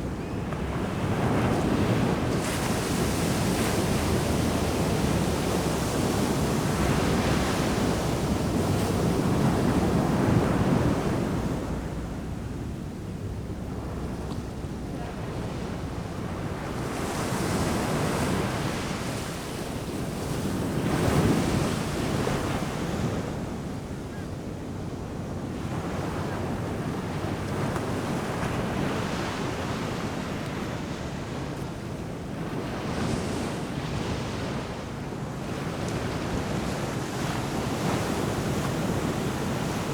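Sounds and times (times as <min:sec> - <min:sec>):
low rumble of sea: 0:00.0 - 0:39.9.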